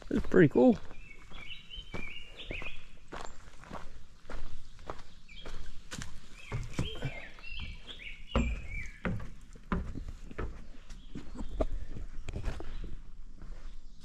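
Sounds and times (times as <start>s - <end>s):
footsteps on wooden stairs: 0.2s - 13.7s.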